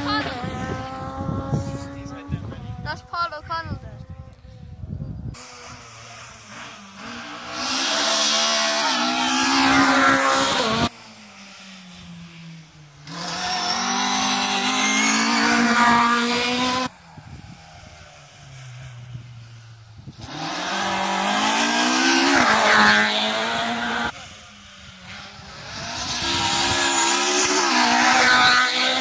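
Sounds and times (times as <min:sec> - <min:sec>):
rally cars passing at high revs: 0:00.0 - 0:03.4, 0:05.4 - 0:29.0.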